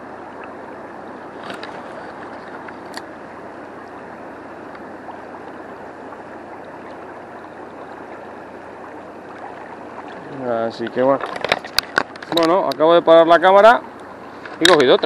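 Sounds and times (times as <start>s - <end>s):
river water rushing: 0.0s - 12.4s.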